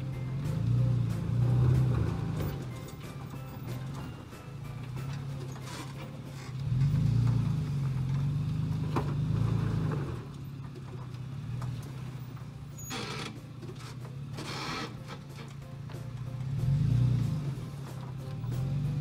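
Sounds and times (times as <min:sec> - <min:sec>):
engine pulling under load: 0:00.0 - 0:19.0.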